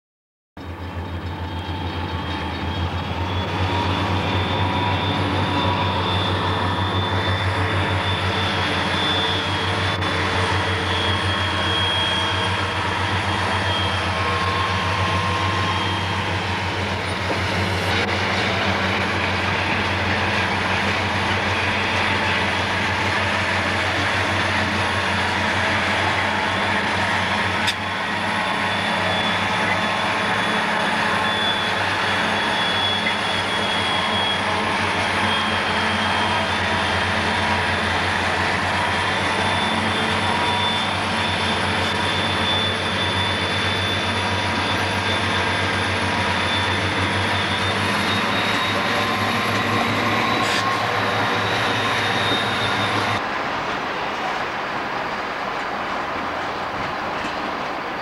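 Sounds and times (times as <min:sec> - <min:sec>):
diesel locomotive drone: 0:00.6 - 0:58.0
rail and wheel noise: 0:00.6 - 0:58.0
road noise: 0:00.6 - 0:58.0.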